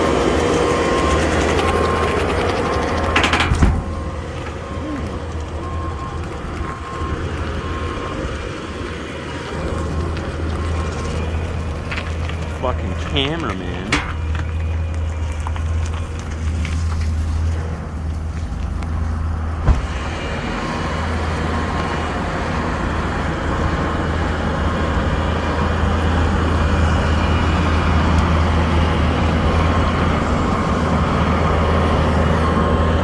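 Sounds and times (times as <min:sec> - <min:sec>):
skid steer engine running: 0:00.0 - 0:33.0.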